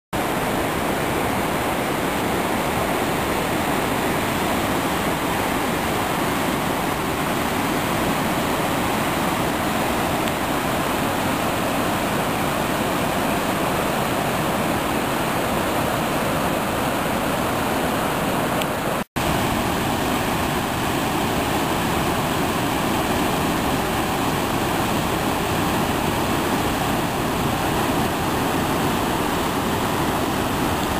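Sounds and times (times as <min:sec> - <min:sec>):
rapids rushing over boulders: 0:00.2 - 0:30.9.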